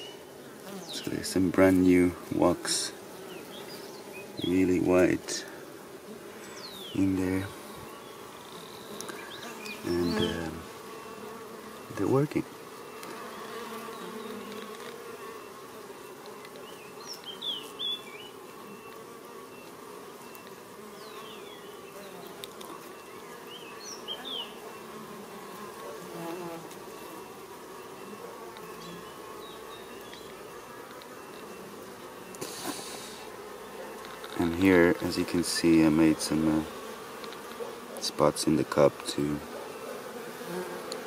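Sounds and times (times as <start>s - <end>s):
bees humming: 0.0s - 41.0s.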